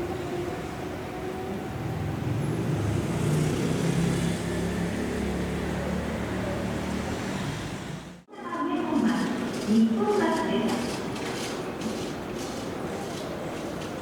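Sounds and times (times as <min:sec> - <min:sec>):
electric train rumbling on rails: 0:00.0 - 0:14.0.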